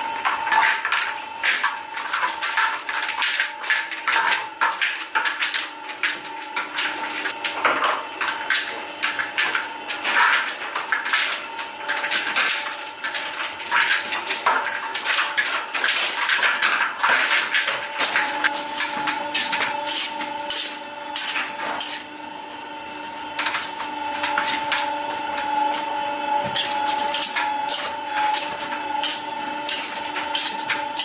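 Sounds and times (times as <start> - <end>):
tools and trays clattering: 0.0 - 22.6, 23.3 - 31.0
steady mechanical hum: 0.0 - 31.0.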